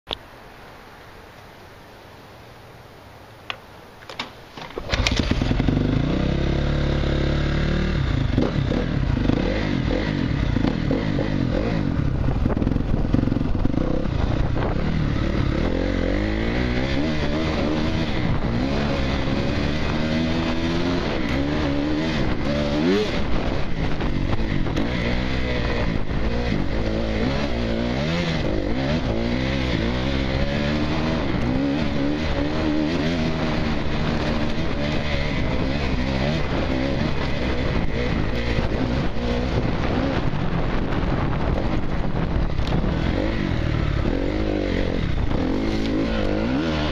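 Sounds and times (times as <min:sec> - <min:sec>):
dirt bike engine revving: 0:04.8 - 0:46.9.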